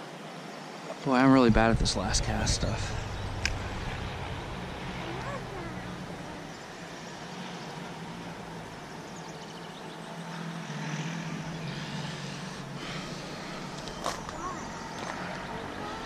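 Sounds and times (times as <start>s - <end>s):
low motor drone: 1.3s - 16.0s.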